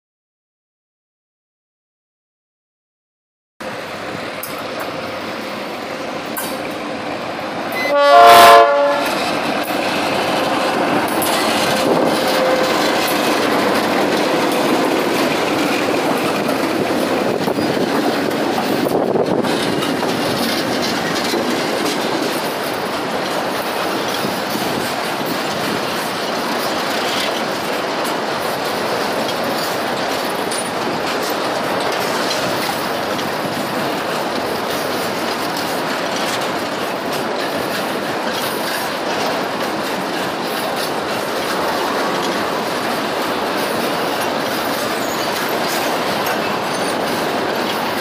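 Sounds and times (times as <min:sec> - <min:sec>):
diesel locomotive passing: 0:03.6 - 0:48.0
train wheels clattering over rail joints: 0:08.9 - 0:48.0.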